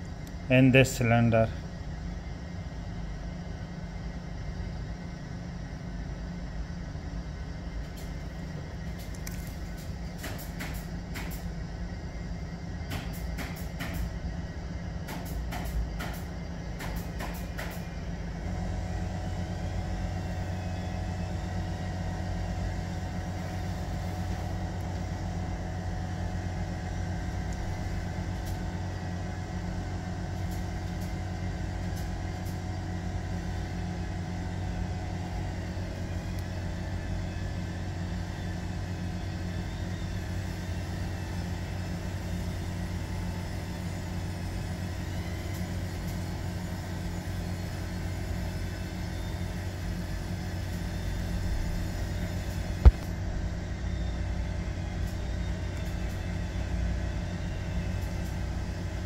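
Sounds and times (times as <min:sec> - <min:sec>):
low mechanical rumble: 0:00.0 - 0:59.0.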